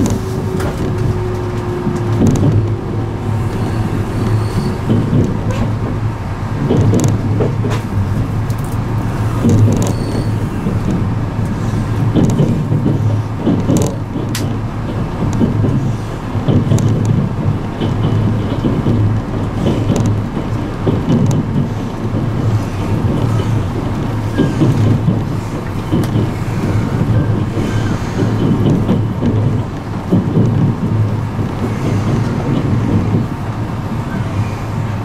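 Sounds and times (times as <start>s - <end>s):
train interior rumble: 0.0s - 35.0s
wheels clattering on track: 0.0s - 35.0s.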